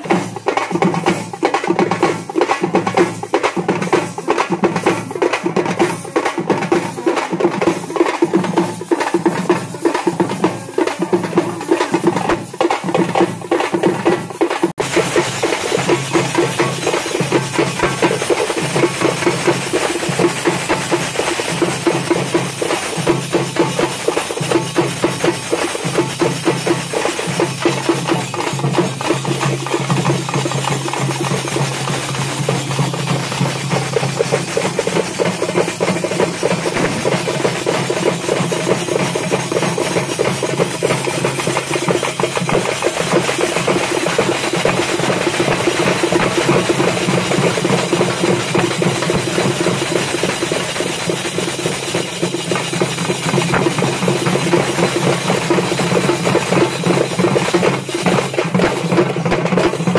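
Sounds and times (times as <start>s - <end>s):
fast festival drumming: 0.0s - 59.9s.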